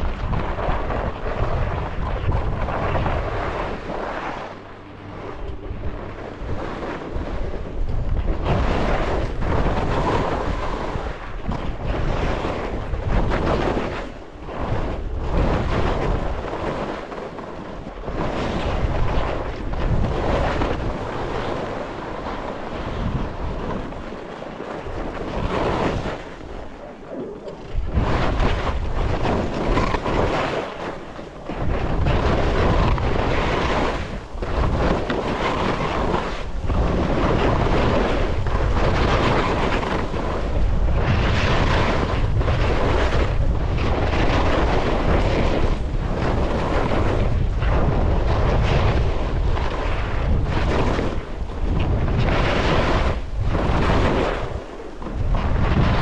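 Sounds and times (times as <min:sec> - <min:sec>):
wind rushing over microphone: 0:00.0 - 0:56.0
skis scraping snow: 0:00.4 - 0:04.5, 0:06.4 - 0:56.0.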